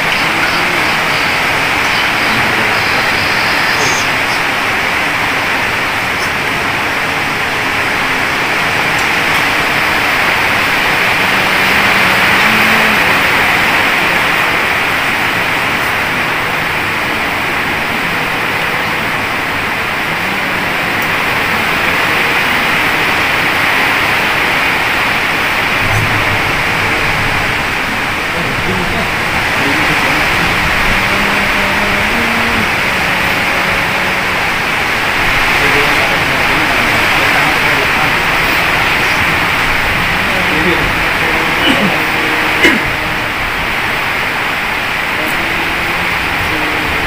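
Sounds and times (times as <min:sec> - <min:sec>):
steady loud hiss: 0:00.0 - 0:47.0.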